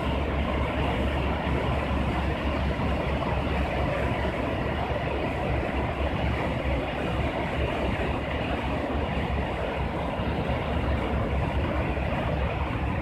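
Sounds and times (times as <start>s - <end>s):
water rushing through sluices: 0.0s - 13.0s.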